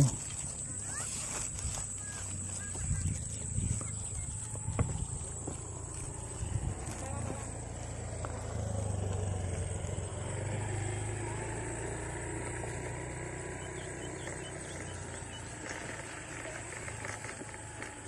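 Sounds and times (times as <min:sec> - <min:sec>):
vehicle engine passing by: 0:00.0 - 0:18.0.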